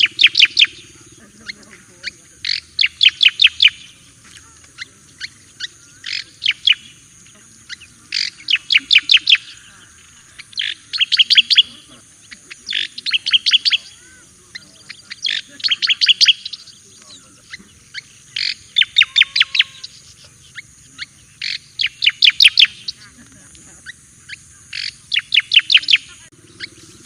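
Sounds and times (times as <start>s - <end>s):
bird singing whistled phrases: 0.0s - 1.7s, 2.4s - 7.0s, 7.6s - 23.0s, 23.8s - 27.0s.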